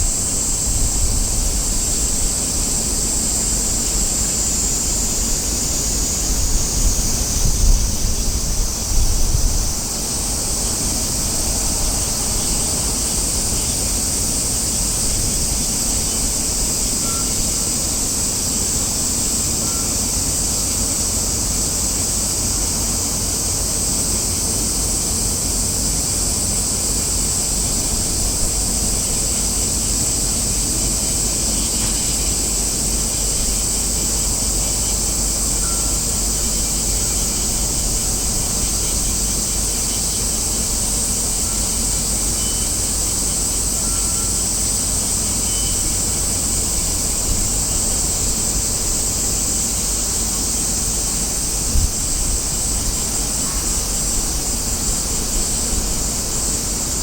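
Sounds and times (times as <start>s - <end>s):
high-pitched hiss: 0.0s - 57.0s.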